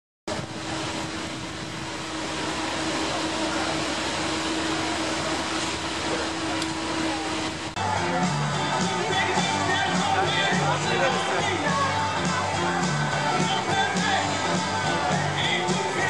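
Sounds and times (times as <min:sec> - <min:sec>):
steady rushing noise: 0:00.3 - 0:16.0.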